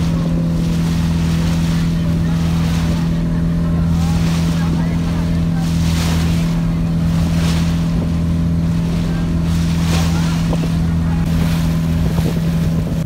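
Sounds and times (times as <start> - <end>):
motorboat engine running: 0.0 - 13.0
water rushing past hull: 0.0 - 13.0
wind on microphone: 0.0 - 13.0.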